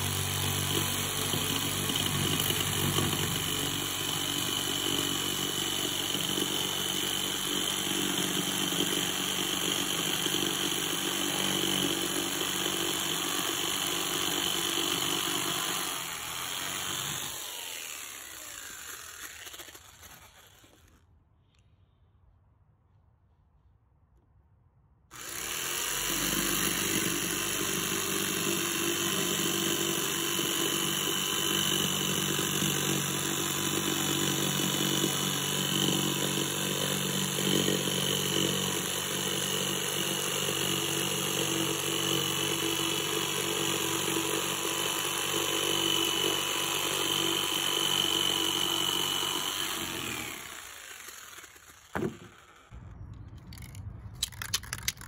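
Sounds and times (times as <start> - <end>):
jigsaw cutting board: 0.0 - 21.0, 25.1 - 52.7, 53.5 - 55.0.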